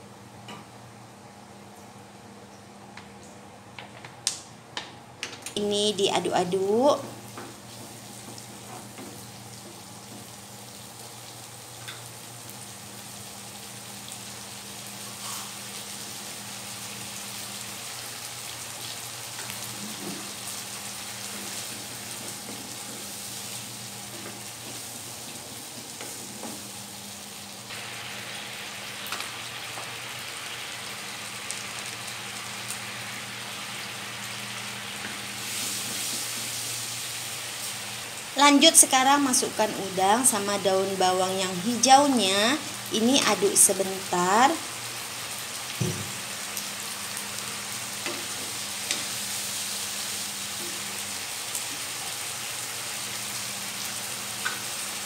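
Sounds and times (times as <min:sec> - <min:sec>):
sauce sizzling in a wok: 0:05.7 - 0:55.0.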